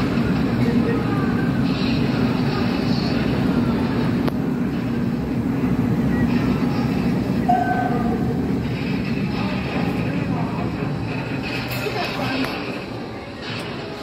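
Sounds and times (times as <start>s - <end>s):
faint voices: 0.0s - 14.0s.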